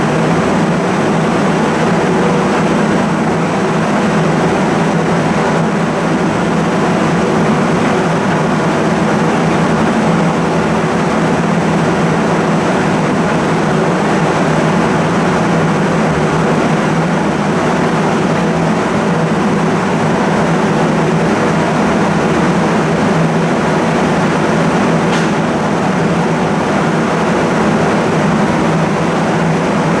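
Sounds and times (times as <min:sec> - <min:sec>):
low hum of steady tones: 0:00.0 - 0:30.0
wind fan rushing noise: 0:00.0 - 0:30.0.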